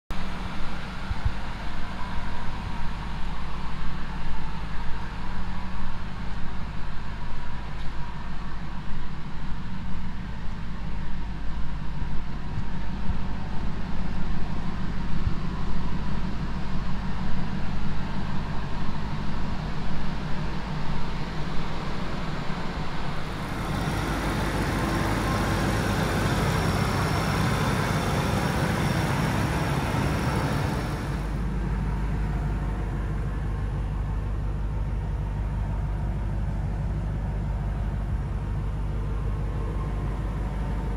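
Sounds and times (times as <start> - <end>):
engine idling rumble: 0.1 - 40.9.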